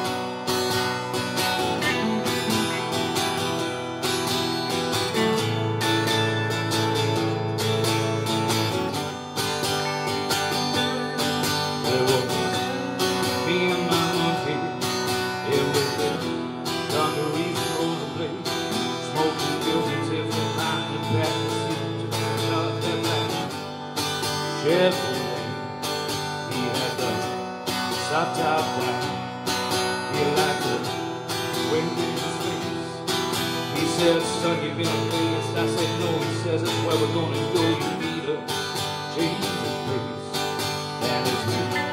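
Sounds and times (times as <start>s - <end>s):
acoustic guitar strumming chords: 0.0s - 41.9s
electric guitar lead lines: 0.0s - 41.9s.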